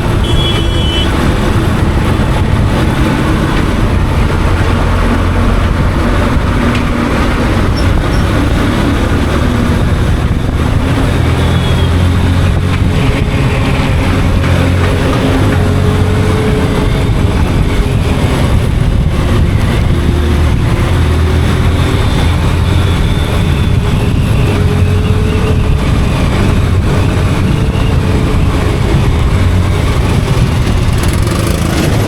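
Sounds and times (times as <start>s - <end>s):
motorcycle engine running: 0.0s - 32.0s
wind and road noise: 0.0s - 32.0s.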